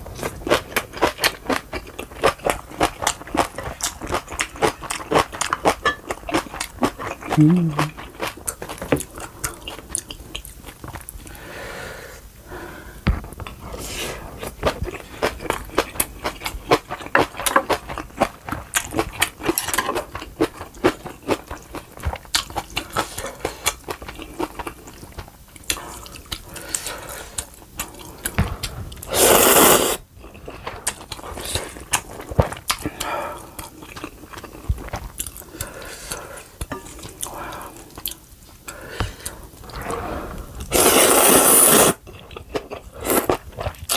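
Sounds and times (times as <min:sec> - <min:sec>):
chewing and crunching food: 0:00.0 - 0:11.4, 0:13.4 - 0:29.1, 0:30.0 - 0:43.9.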